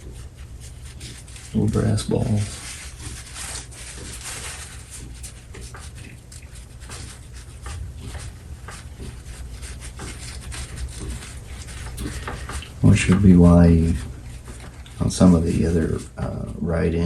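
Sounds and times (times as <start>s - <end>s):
low steady hum: 0.0s - 17.0s
scratching and rubbing of polishing: 0.0s - 17.0s.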